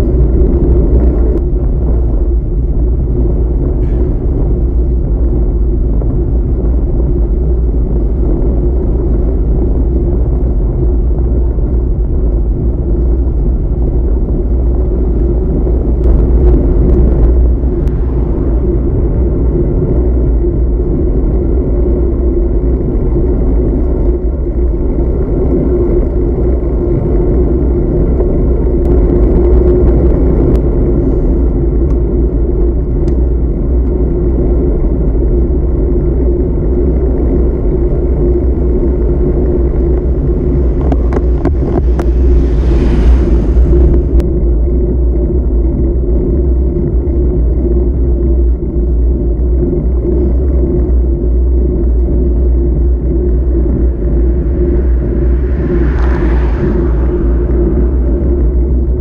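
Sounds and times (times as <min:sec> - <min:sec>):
bicycle tyres on asphalt: 0:00.0 - 0:59.0
wind rumble on microphone: 0:00.0 - 0:59.0.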